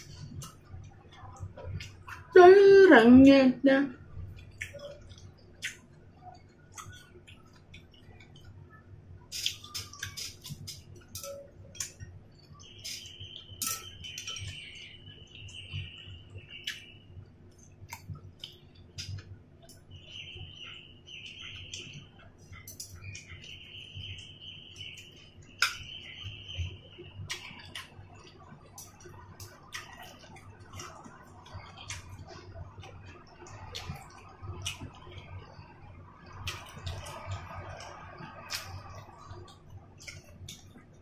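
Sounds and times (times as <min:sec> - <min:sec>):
chewing food: 0:04.1 - 0:41.0.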